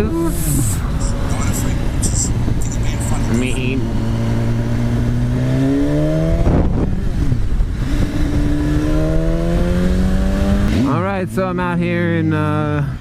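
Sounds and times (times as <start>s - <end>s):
motorcycle engine accelerating: 0.0s - 11.5s.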